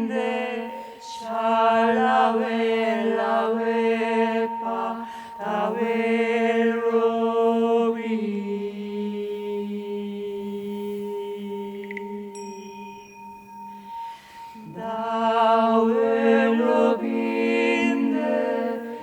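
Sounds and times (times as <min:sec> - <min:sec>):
low held drone: 0:00.0 - 0:19.0
voices singing chant-like tones: 0:00.0 - 0:19.0.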